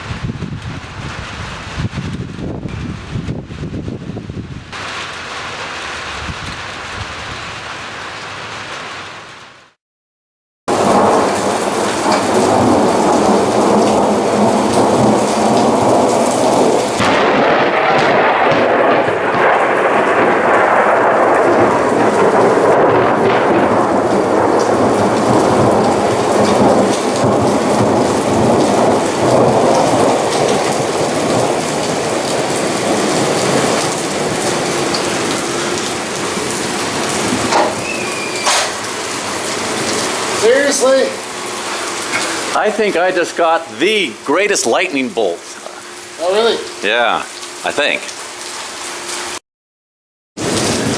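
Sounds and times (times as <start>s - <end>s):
thunder rumbling: 0.0s - 7.9s, 10.7s - 47.9s, 50.4s - 50.9s
heavy rain pouring: 0.0s - 9.8s, 10.7s - 49.4s, 50.4s - 50.9s.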